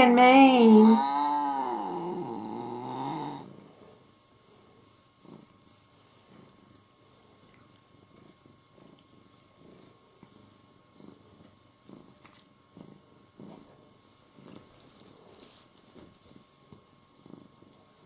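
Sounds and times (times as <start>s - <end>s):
cat purring: 0.8s - 18.0s.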